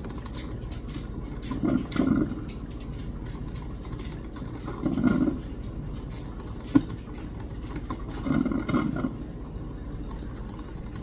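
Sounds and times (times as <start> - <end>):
coffee maker humming: 0.0 - 11.0.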